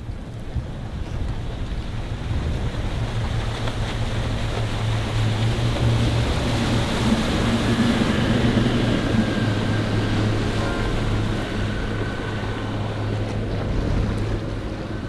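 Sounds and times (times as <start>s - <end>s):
outboard motors droning: 0.0s - 15.0s
rushing water: 0.0s - 15.0s
wind: 0.0s - 15.0s.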